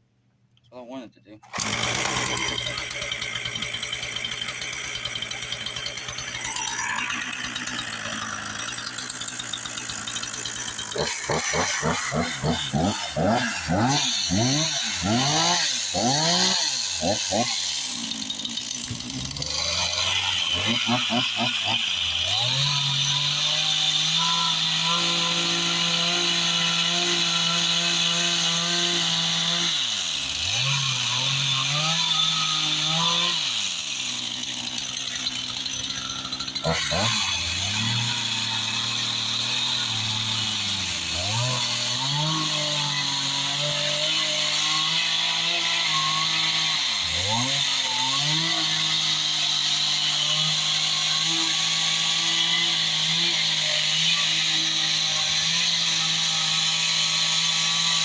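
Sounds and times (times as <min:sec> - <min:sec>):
chainsaw revving: 0:01.3 - 0:58.0.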